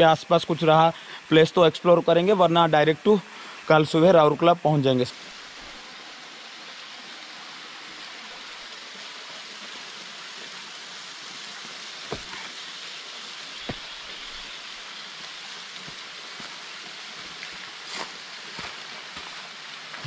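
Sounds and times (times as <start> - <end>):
small waterfall splashing: 0.0 - 20.0.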